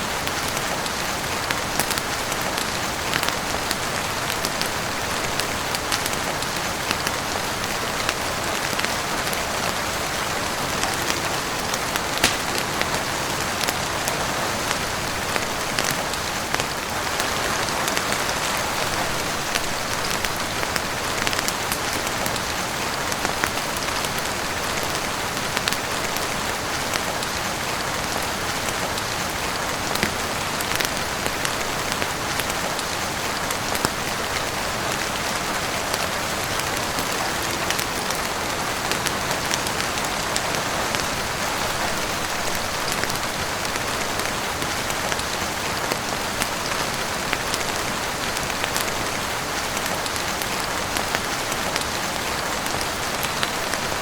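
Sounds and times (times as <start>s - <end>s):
heavy rain on roof and windows: 0.0s - 54.0s.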